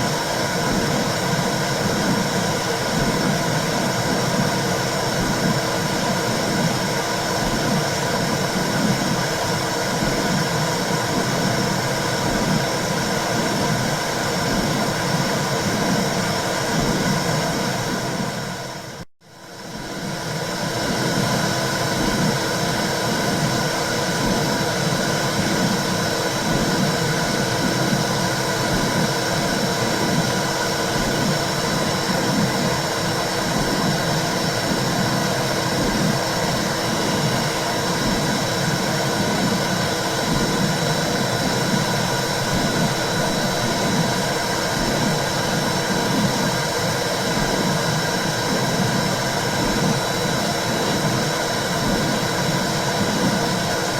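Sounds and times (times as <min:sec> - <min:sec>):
low rhythmic heartbeat pulse: 0:00.5 - 0:18.5, 0:19.6 - 0:53.9.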